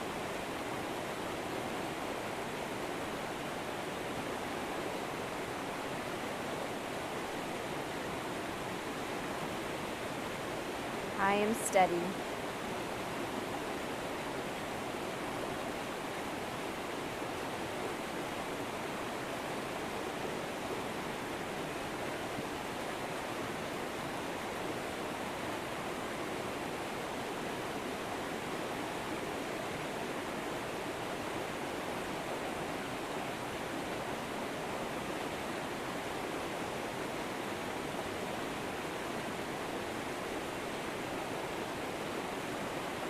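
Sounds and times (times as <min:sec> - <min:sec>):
river water flowing: 0:00.0 - 0:43.0.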